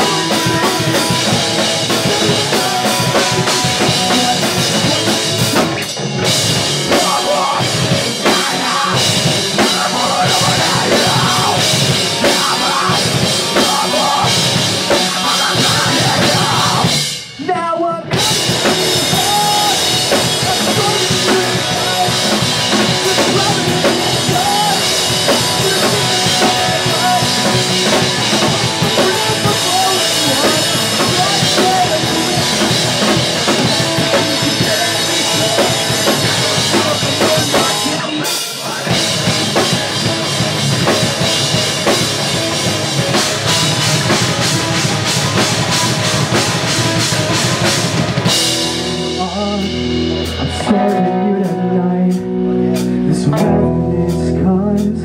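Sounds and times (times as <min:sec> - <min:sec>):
pop punk band playing live: 0:00.0 - 0:55.0.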